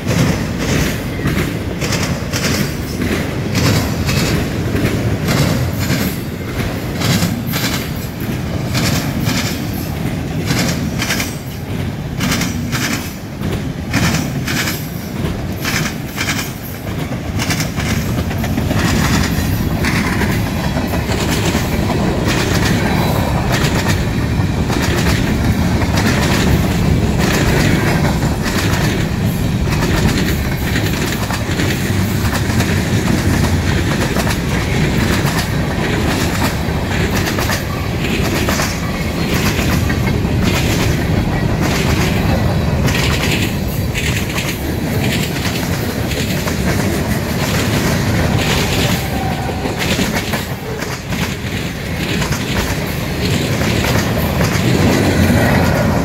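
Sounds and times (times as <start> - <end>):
freight train rolling rumble: 0.0 - 56.0
train wheels clacking: 0.0 - 56.0.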